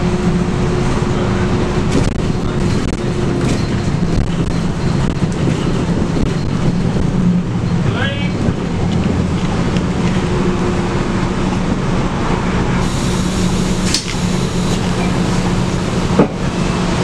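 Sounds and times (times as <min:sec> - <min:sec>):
bus diesel engine hum: 0:00.0 - 0:17.0
road and body noise: 0:00.1 - 0:17.0.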